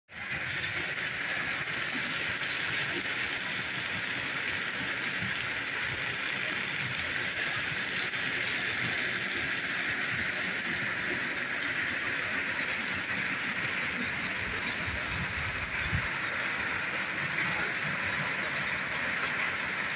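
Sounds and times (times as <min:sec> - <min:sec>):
rain falling steadily: 0:00.1 - 0:19.9.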